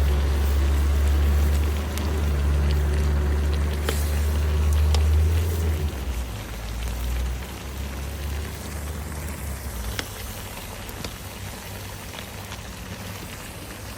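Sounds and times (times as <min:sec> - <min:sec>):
wood fire hissing and crackling: 0:00.0 - 0:13.9.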